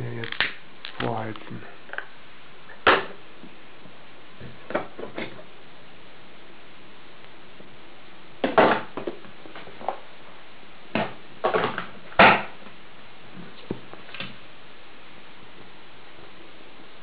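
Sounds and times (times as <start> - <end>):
stove faint hiss: 0.0 - 17.0.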